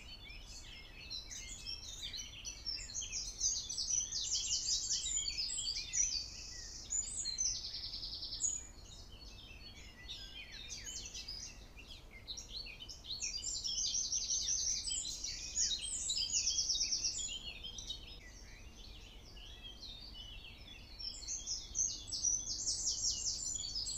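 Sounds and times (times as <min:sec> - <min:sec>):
songbirds chirping and trilling: 0:00.0 - 0:23.9.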